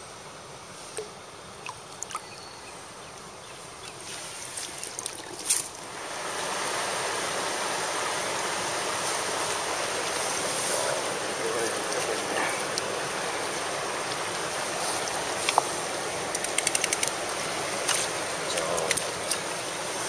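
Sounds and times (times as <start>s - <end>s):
stream water running over rocks: 1.0s - 20.0s.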